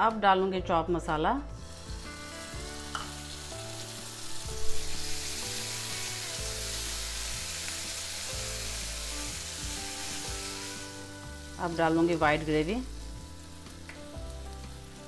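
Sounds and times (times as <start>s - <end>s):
background music: 0.0s - 15.0s
food sizzling in frying pan: 1.5s - 15.0s.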